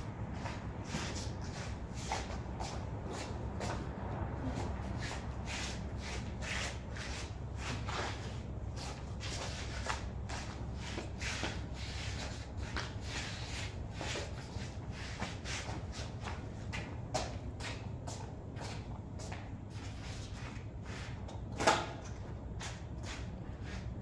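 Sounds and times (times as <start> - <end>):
steady low hum: 0.0 - 24.0
sneakers scuffing on tiles: 0.2 - 24.0.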